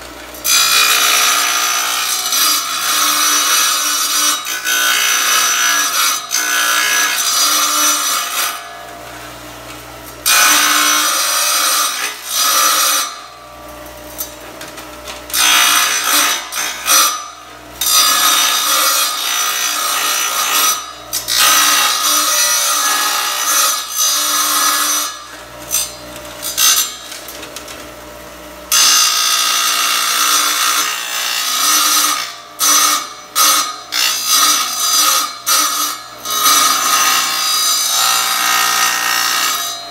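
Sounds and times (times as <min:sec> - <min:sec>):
tile saw grinding tile: 0:00.0 - 0:09.3, 0:10.2 - 0:27.9, 0:28.7 - 0:39.9
tile saw running hum: 0:00.0 - 0:39.9.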